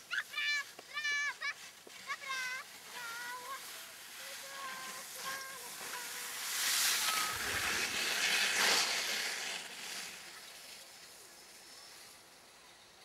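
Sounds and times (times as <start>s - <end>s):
skis scraping over snow: 0.0s - 13.0s.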